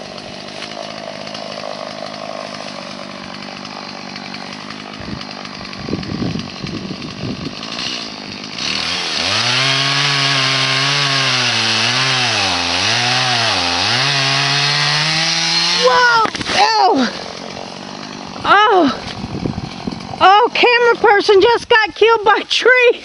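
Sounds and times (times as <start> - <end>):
chainsaw revving and cutting wood: 0.0 - 23.0.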